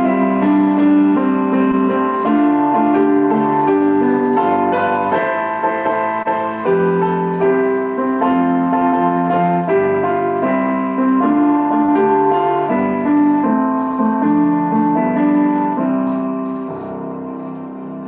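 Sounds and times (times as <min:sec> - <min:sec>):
piano chords and melody: 0:00.0 - 0:18.0.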